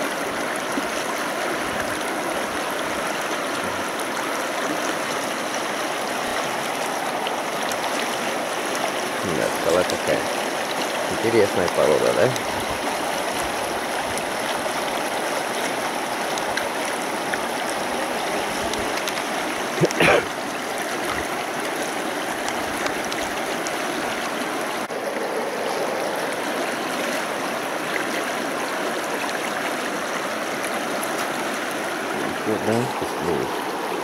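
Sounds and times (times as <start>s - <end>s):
river rushing over stones: 0.0s - 34.0s.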